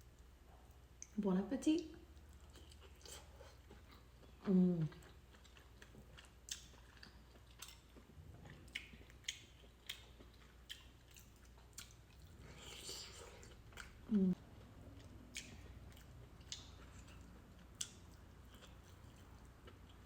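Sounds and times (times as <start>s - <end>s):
person chewing: 2.1s - 20.0s.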